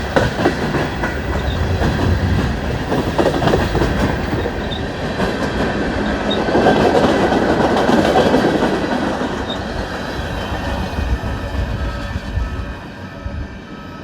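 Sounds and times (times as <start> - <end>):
train rolling past on rails: 0.0 - 14.0.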